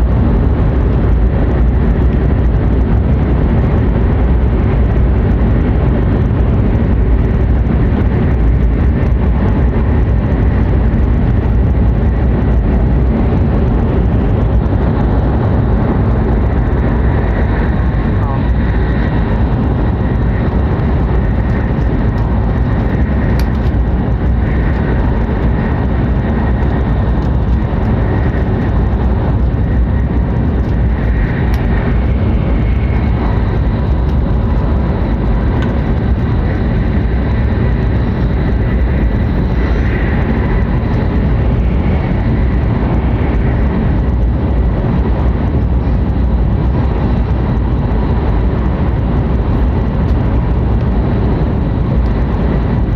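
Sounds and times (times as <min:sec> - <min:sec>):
train cabin rumble: 0:00.0 - 0:52.9.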